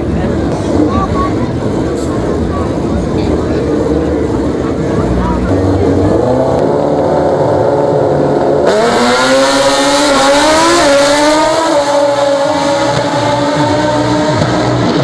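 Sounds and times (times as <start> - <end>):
rumble of other engines: 0.0 - 15.0
motorcycle engine revving hard: 2.8 - 15.0.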